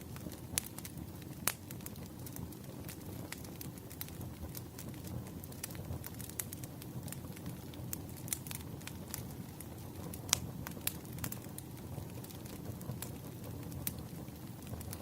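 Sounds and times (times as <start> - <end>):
pops and snaps of burning wood: 0.0 - 15.0
wood fire crackling: 0.0 - 15.0.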